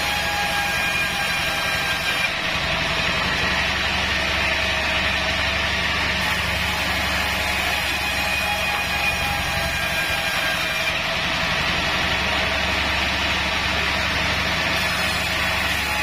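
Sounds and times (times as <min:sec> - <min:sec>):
band sawmill humming: 0:00.0 - 0:16.0
saw blade cutting wood: 0:00.0 - 0:16.0.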